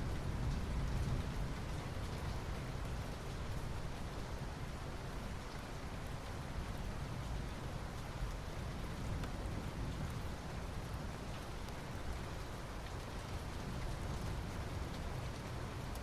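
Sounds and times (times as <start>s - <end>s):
rain on asphalt: 0.0s - 16.0s.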